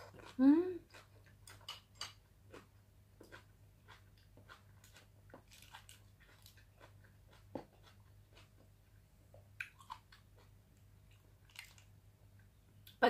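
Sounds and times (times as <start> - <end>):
faint chewing with mouth clicks: 0.0 - 13.0.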